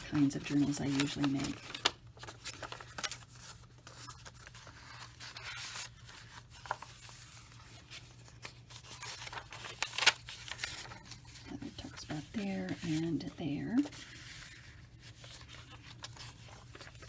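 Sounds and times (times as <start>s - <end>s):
paper pages rustling: 0.0s - 17.0s.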